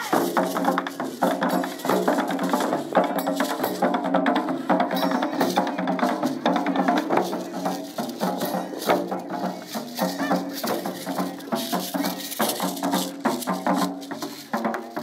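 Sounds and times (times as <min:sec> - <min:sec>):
taiko drum ensemble playing: 0:00.0 - 0:15.0.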